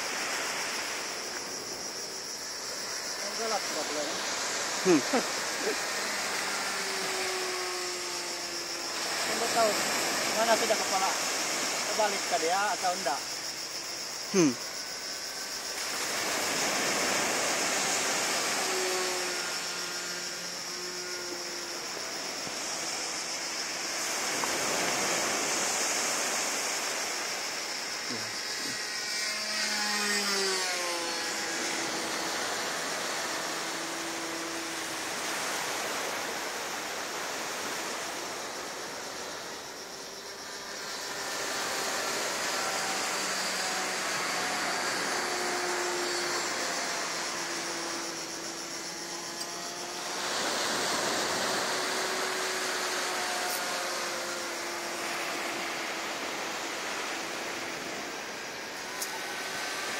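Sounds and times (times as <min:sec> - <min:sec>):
model plane engine whine: 0:00.0 - 0:59.9.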